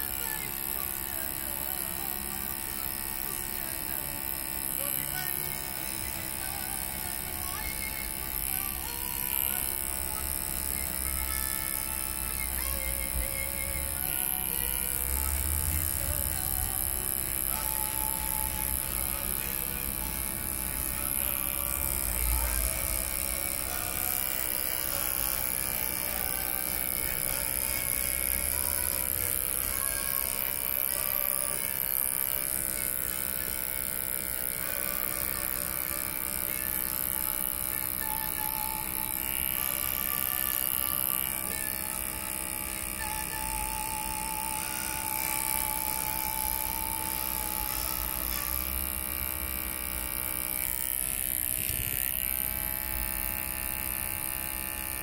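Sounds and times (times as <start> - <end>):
electric hair clipper buzzing: 0.0 - 55.0.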